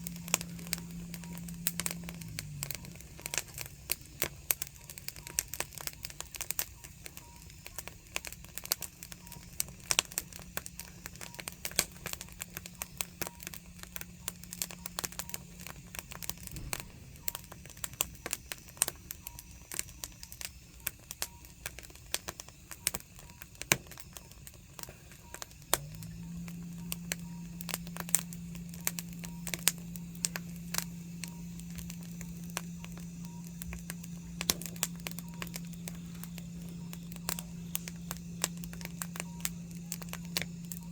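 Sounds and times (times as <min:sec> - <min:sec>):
firewood crackling and popping: 0:00.0 - 0:40.9
low steady hum: 0:00.0 - 0:40.9.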